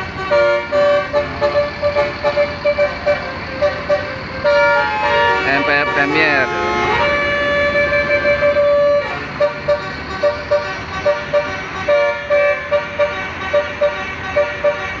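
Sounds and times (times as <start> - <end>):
bus horn blasts: 0.0 - 15.0.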